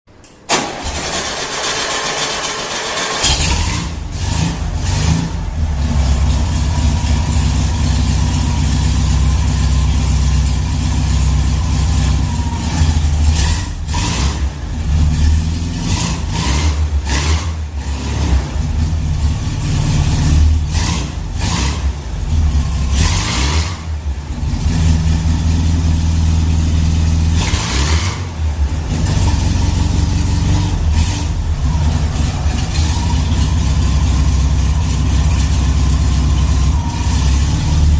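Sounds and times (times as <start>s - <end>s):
car engine idling: 0.5s - 37.9s.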